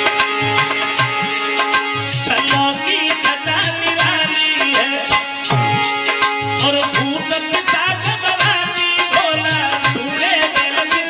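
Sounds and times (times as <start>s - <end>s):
harmonium chords: 0.0s - 11.0s
tabla beat: 0.0s - 11.0s.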